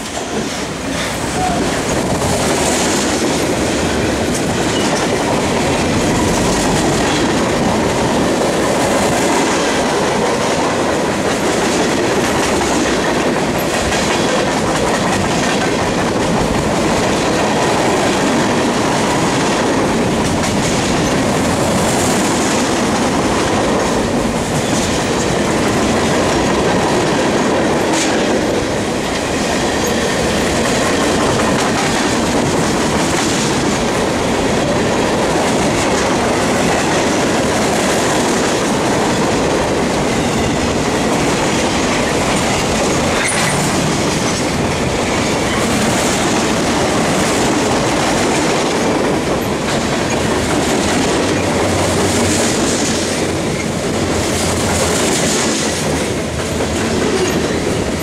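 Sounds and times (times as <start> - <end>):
freight train wheels on rails: 0.0 - 58.0
wheels clicking over rail joints: 0.0 - 58.0.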